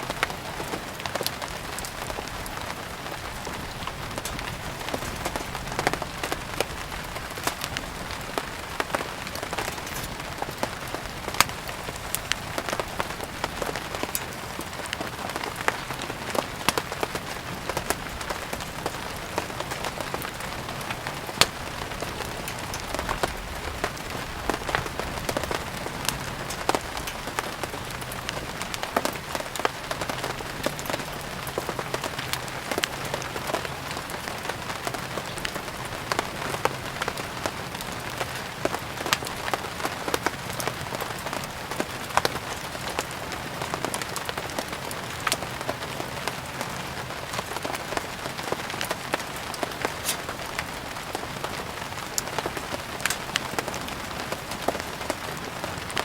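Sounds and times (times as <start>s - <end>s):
steady rain falling: 0.0s - 56.0s
wood fire crackling and popping: 0.0s - 56.0s.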